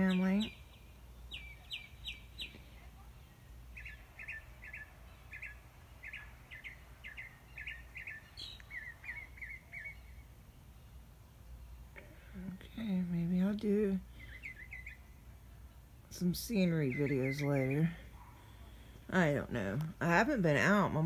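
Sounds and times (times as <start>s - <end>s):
small bird chirping faintly: 0.0s - 19.8s
steady low hum: 0.0s - 21.0s.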